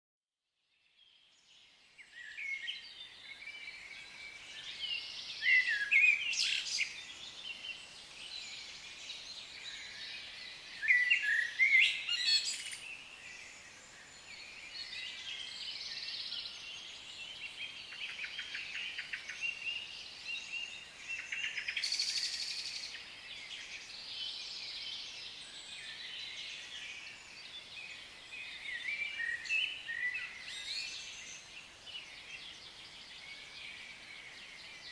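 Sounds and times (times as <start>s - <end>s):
forest birds chirping and calling: 0.9s - 34.9s.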